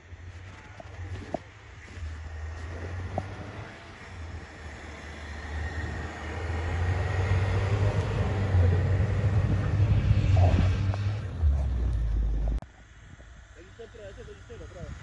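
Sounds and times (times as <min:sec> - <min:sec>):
car engine running hard: 0:00.0 - 0:12.6
tyres rushing through snow: 0:00.0 - 0:13.0.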